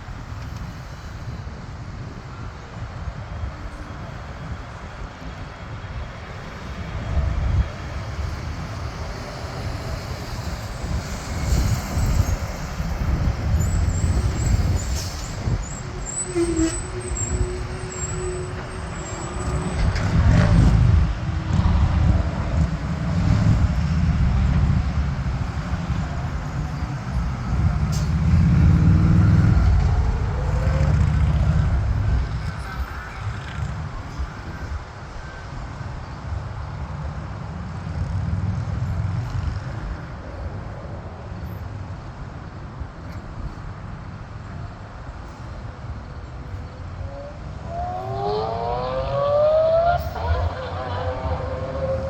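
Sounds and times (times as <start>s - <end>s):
jet engines on takeoff: 0.0s - 52.0s
road traffic noise: 0.0s - 52.0s.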